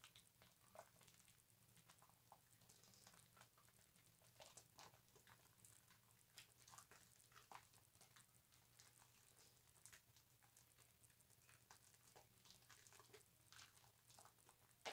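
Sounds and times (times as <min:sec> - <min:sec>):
wet squishing of soap lather: 0:00.0 - 0:14.9.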